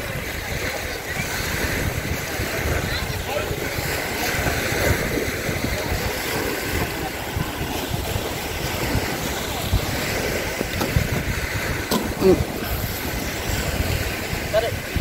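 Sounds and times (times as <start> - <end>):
surf on beach: 0.0 - 15.0
wind buffeting microphone: 0.0 - 15.0.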